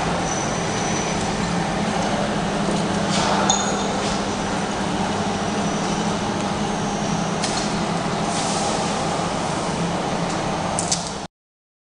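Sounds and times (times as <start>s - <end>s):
machine motors humming: 0.0s - 11.2s.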